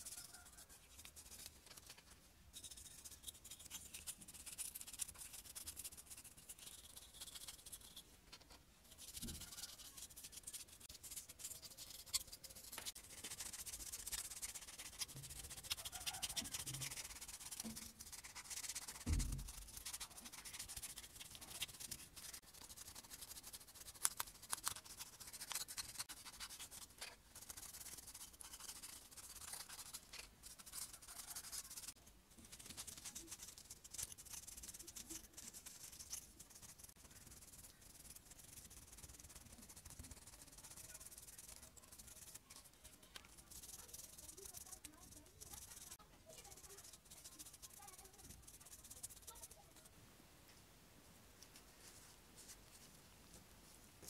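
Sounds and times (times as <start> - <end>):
brush scrubbing in soapy water: 2.6 - 8.0, 8.9 - 49.6.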